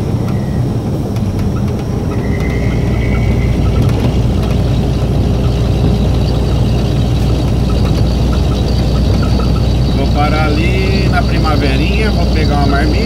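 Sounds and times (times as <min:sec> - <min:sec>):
truck engine and tyre drone: 0:00.0 - 0:13.0.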